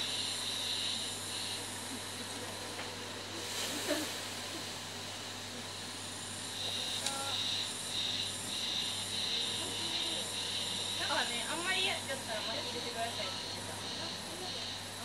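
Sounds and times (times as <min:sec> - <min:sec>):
pulsing high hiss: 0:00.0 - 0:15.0
water hissing on hot stones: 0:00.0 - 0:15.0.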